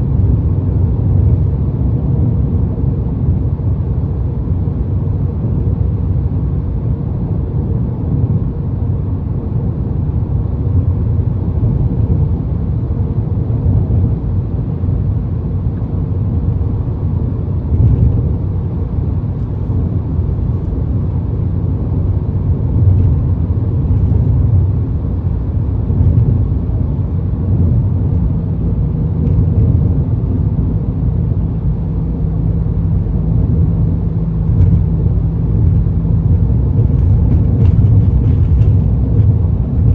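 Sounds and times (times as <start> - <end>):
low exhaust drone: 0.0 - 39.9
road and wind noise: 0.0 - 39.9
steady low hum: 0.0 - 39.9.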